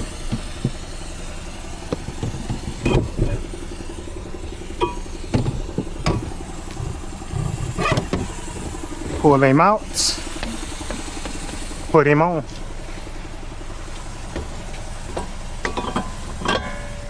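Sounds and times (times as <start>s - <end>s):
spare tire clunking in trunk: 0.0s - 17.0s
steady engine hum: 0.0s - 17.0s.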